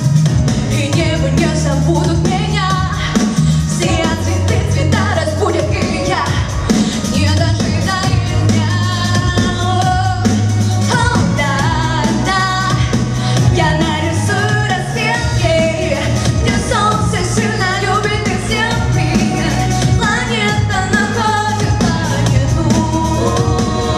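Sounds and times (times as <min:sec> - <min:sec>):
backing track with bass line: 0:00.0 - 0:23.9
woman singing pop song: 0:00.5 - 0:23.9.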